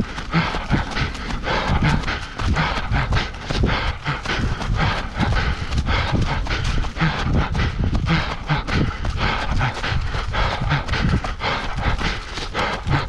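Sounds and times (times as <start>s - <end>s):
running footsteps on trail: 0.0s - 13.0s.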